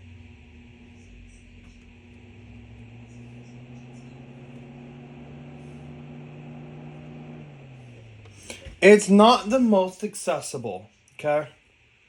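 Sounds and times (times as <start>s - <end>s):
humidifier fan motor humming: 0.0s - 12.0s.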